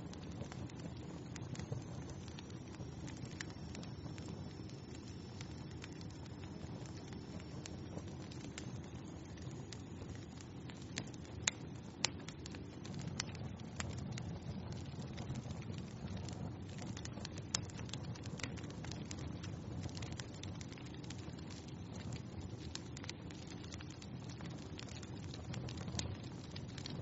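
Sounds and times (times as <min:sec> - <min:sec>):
loud fire pops: 0:00.0 - 0:27.0
wood fire crackling: 0:00.0 - 0:27.0.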